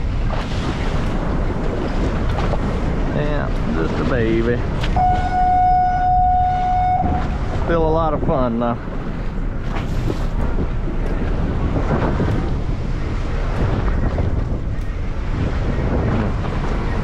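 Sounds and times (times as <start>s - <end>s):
waves against boat hull: 0.0s - 17.0s
wind buffeting microphone: 0.0s - 17.0s.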